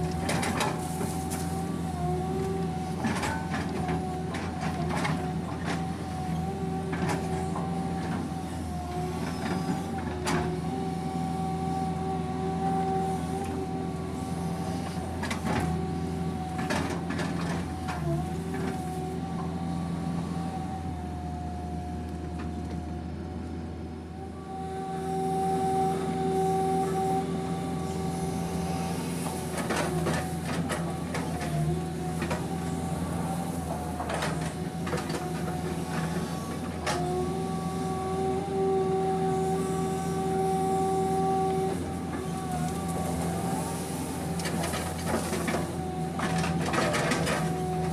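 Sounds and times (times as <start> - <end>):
constant hydraulic whine: 0.0 - 47.9
excavator engine drone: 0.0 - 47.9.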